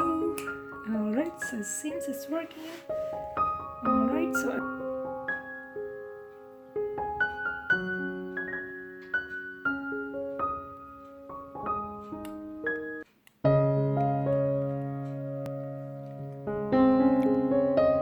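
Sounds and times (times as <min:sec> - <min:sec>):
piano notes and chords: 0:00.0 - 0:18.0.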